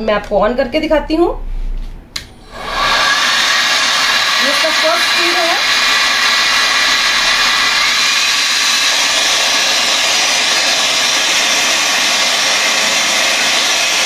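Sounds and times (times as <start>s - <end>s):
blower rush of air: 2.3s - 14.0s.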